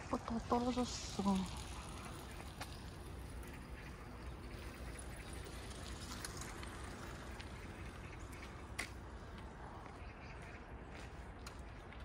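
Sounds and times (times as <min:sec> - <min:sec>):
low steady rumble: 0:00.0 - 0:11.8.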